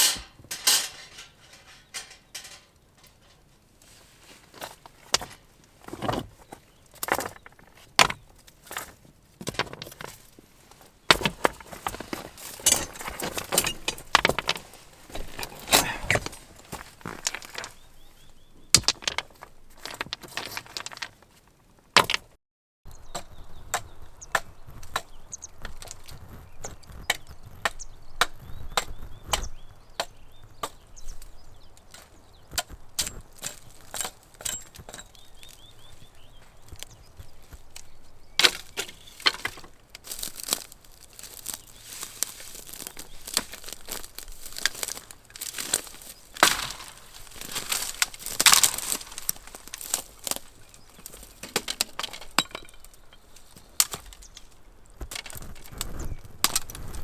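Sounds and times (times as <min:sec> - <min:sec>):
wood splitting knocks and cracking: 0:04.5 - 0:17.8, 0:18.7 - 0:21.3, 0:22.0 - 0:22.4, 0:26.9 - 0:57.0.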